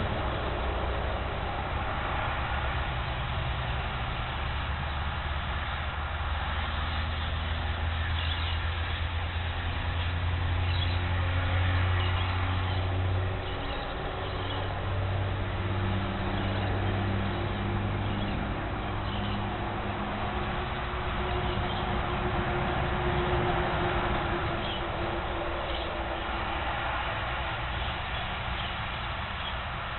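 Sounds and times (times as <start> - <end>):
low motor hum: 0.0 - 29.9.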